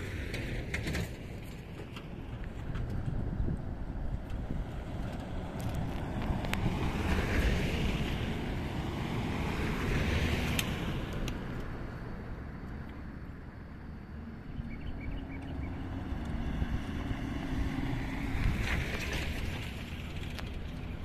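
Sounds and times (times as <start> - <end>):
vehicles driving on gravel: 0.0 - 21.0.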